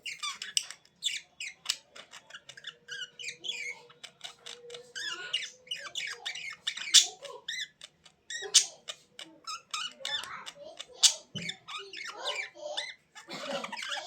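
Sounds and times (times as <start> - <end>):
birds chirping and squawking: 0.0 - 14.0.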